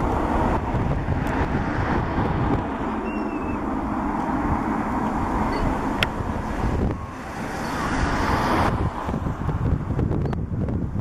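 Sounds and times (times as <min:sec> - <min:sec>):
jet engine rumble and hiss: 0:00.0 - 0:10.8
wind buffeting microphone: 0:00.0 - 0:11.0.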